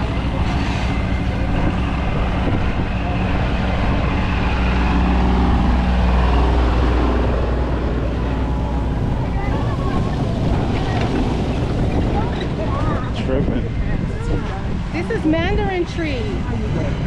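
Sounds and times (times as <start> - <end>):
engine running drone: 0.0 - 17.0.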